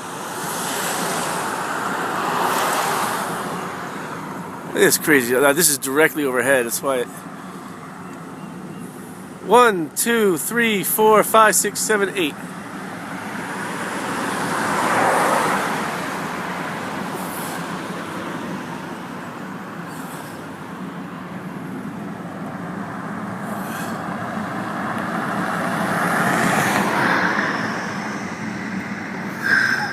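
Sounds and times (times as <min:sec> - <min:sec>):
road traffic passing: 0:00.0 - 0:29.9.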